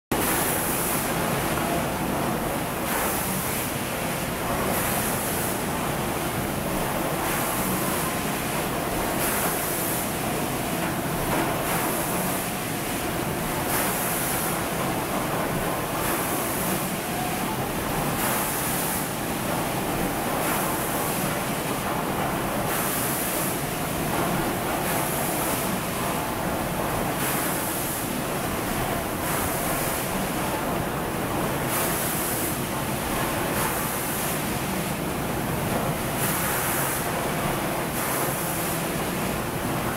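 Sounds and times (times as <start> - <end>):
machine hiss and hum: 0.1 - 39.9.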